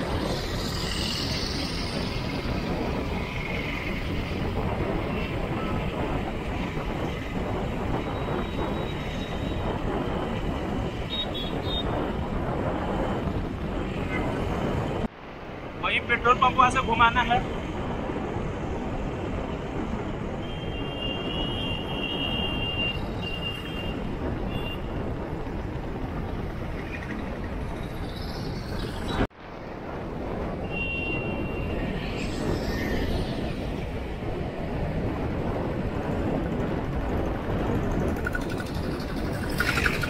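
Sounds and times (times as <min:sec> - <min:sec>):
road rumble: 0:00.0 - 0:40.0
wind rush on microphone: 0:00.0 - 0:40.0.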